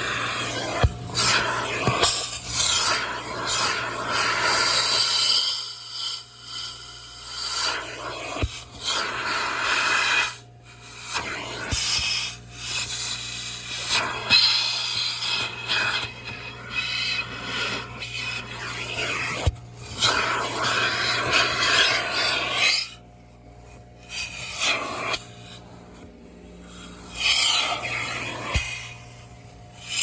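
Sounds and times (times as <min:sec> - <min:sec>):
vacuum hose nozzle sucking: 0:00.0 - 0:06.7, 0:07.3 - 0:10.4, 0:13.8 - 0:22.9, 0:24.0 - 0:29.2
steady motor hum: 0:00.0 - 0:30.0.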